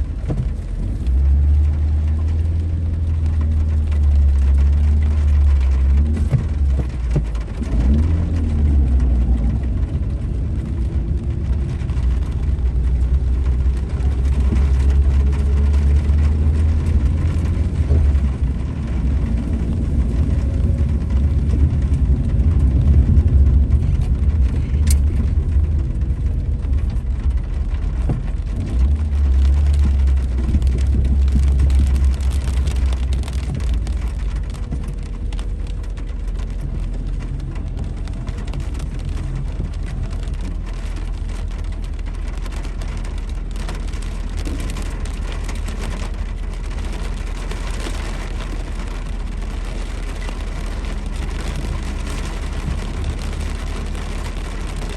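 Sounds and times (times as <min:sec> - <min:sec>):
car engine rumble: 0:00.0 - 0:54.9
road noise: 0:00.0 - 0:54.9.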